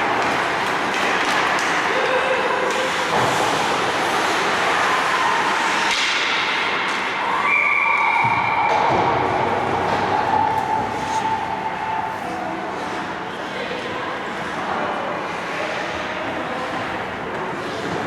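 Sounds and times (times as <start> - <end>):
ice rink noise: 0.0 - 18.0.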